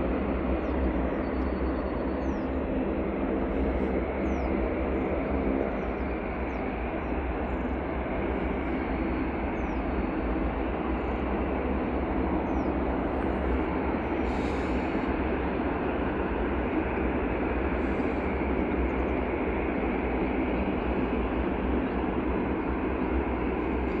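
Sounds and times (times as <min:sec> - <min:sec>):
jet airliner roar: 0:00.0 - 0:24.0.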